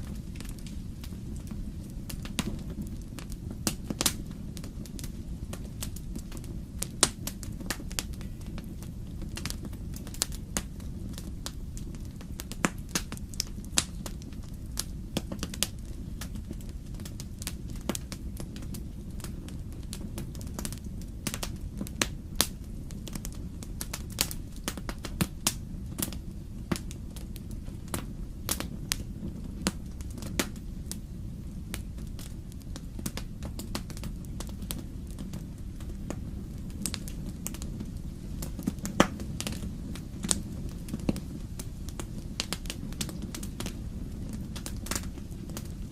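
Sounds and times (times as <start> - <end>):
flames rumbling: 0.0 - 45.9.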